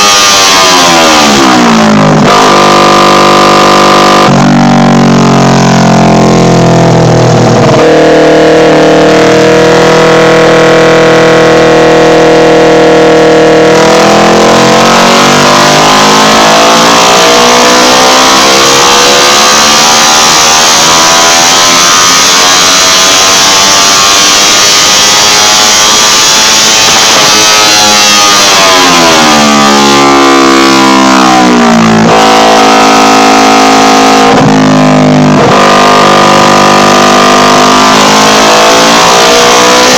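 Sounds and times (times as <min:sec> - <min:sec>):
loud motorcycle engine revving: 0:00.0 - 0:39.9.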